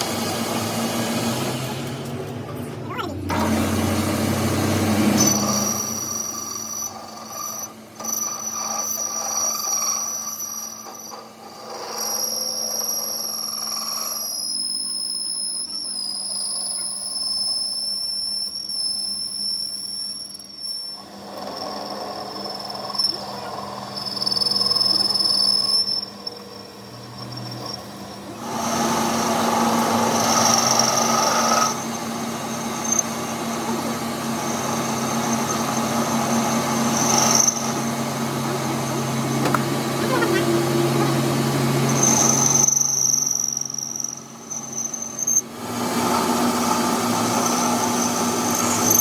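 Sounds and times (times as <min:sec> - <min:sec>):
power tool high whine: 0:00.0 - 0:02.2, 0:03.2 - 0:49.0
rough machining noise: 0:00.0 - 0:49.0.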